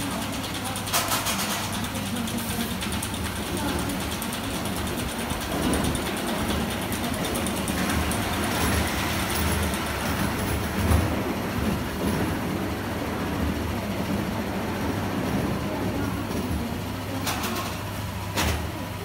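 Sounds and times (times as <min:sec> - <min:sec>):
roller coaster car rumbling on track: 0:00.0 - 0:19.0.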